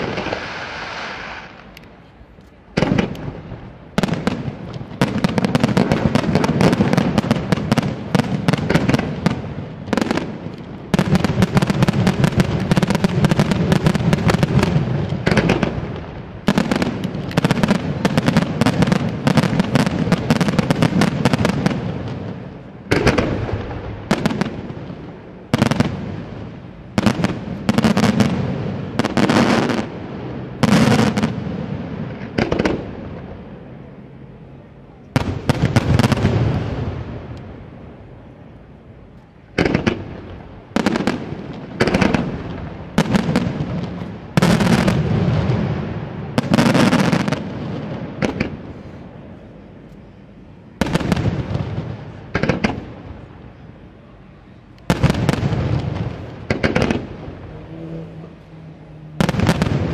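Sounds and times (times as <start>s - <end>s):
fireworks bangs: 0.0s - 1.7s, 2.6s - 33.8s, 35.1s - 38.5s, 39.2s - 49.9s, 50.7s - 53.7s, 54.8s - 59.9s.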